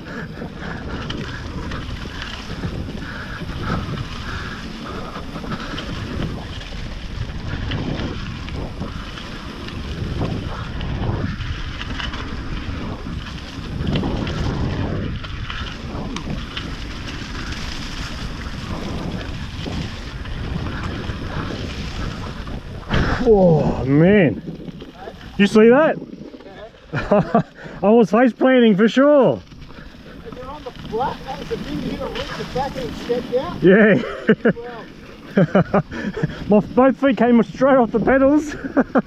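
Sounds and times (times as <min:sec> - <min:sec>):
bike tyres rushing: 0:00.0 - 0:39.0
wind buffeting microphone: 0:00.0 - 0:39.0.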